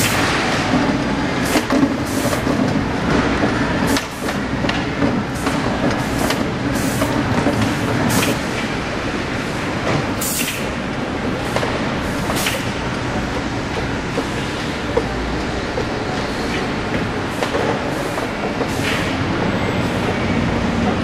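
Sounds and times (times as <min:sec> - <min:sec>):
conveyor mechanical whir: 0:00.0 - 0:21.0.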